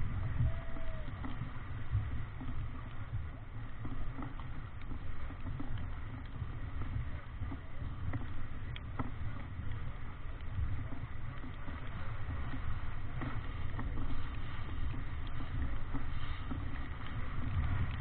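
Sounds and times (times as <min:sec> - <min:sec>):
waves and spray on hull: 0:00.0 - 0:18.0
wind rumble on microphone: 0:00.0 - 0:18.0.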